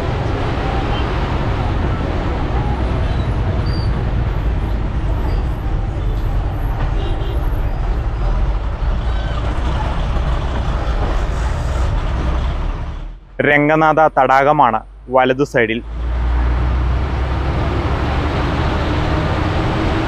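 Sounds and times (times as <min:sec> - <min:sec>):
bus diesel engine rumble: 0:00.0 - 0:20.0.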